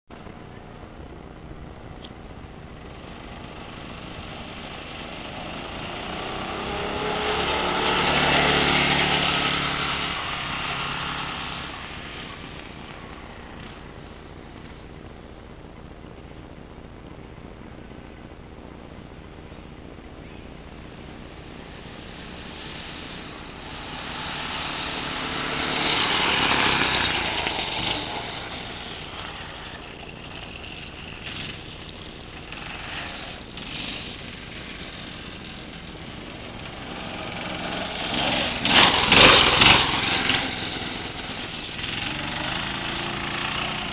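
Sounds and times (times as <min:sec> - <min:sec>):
go-kart engine passing by: 0:02.8 - 0:14.8, 0:20.8 - 0:43.9.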